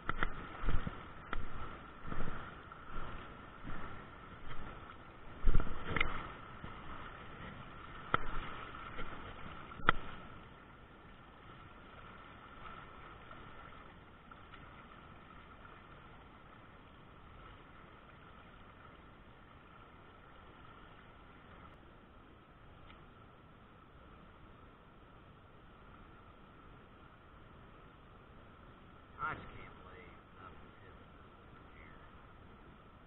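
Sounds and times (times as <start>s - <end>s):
river water rushing over riffles: 0.0s - 33.0s.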